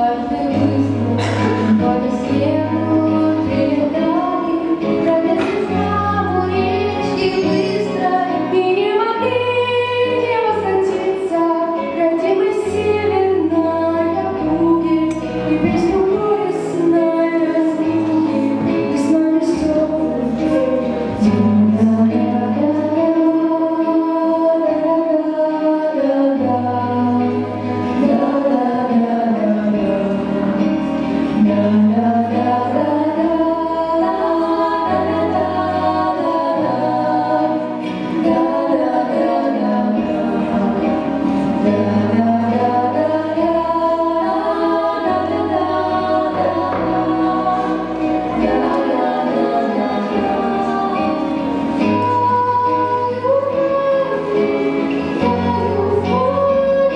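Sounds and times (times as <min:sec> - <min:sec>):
women singing in harmony: 0:00.0 - 0:56.9.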